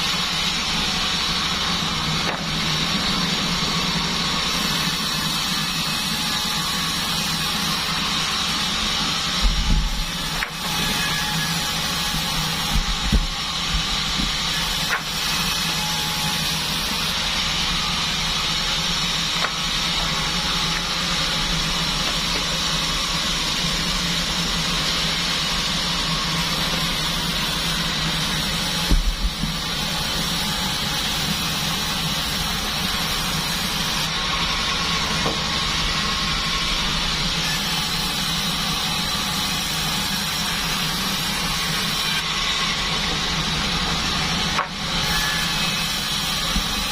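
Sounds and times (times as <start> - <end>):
band sawmill running: 0.0 - 46.9.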